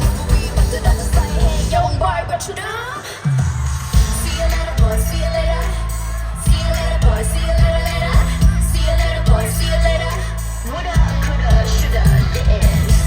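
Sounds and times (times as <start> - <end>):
person singing: 0.0 - 3.3, 4.0 - 13.0
live pop music over speakers: 0.0 - 13.0.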